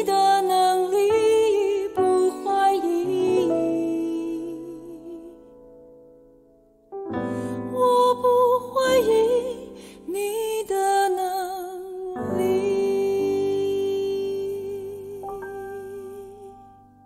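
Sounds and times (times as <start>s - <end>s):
solo voice singing: 0.0s - 5.6s, 7.6s - 16.8s.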